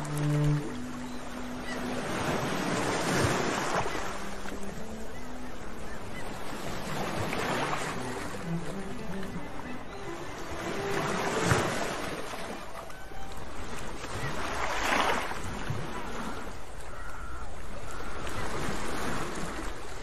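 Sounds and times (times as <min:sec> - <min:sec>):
sea surf washing ashore: 0:00.0 - 0:20.0.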